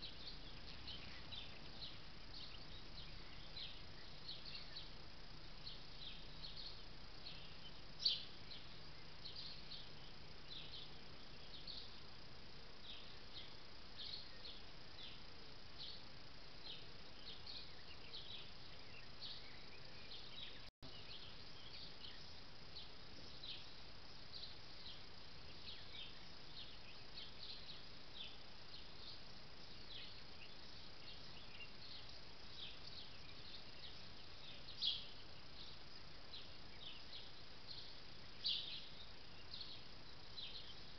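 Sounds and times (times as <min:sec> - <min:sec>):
small birds chirping: 0:00.0 - 0:40.9
steady hiss: 0:00.0 - 0:40.9.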